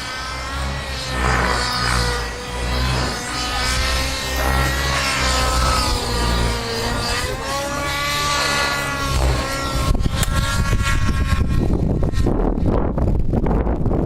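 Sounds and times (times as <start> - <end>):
model helicopter whining: 0.0 - 13.9
wind on microphone: 0.0 - 14.0.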